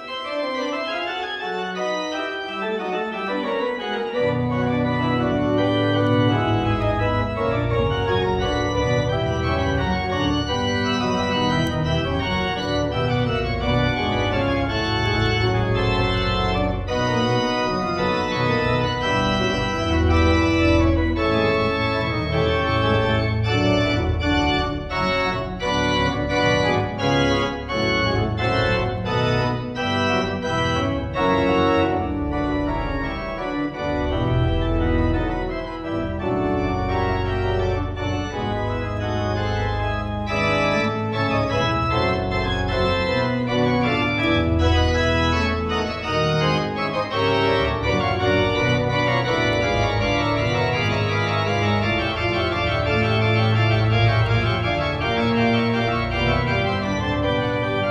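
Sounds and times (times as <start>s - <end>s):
pipe organ playing fugue: 0.0s - 57.9s.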